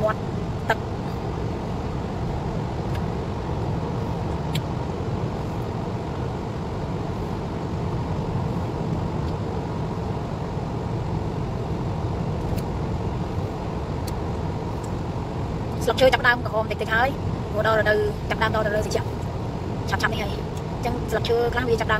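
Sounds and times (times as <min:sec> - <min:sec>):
car cabin road noise: 0:00.0 - 0:21.9.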